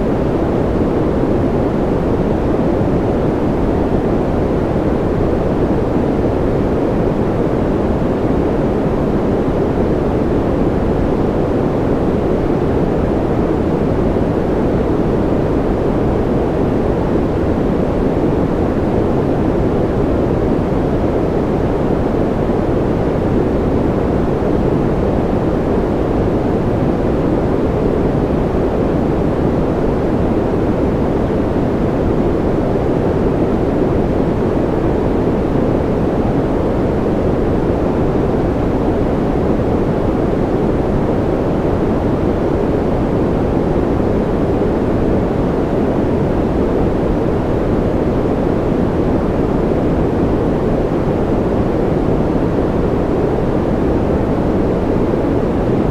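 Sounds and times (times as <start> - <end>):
deep white noise hiss: 0.0 - 55.9.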